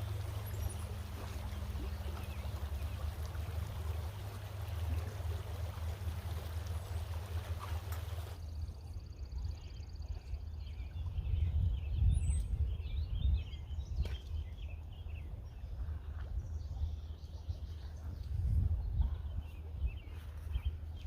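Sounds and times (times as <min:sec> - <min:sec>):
small birds chirping: 0:00.0 - 0:21.0
wind rumbling on microphone: 0:00.0 - 0:21.0.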